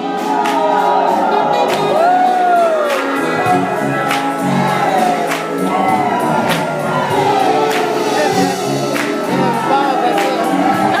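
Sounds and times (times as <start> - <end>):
gospel choir singing: 0.0 - 11.0.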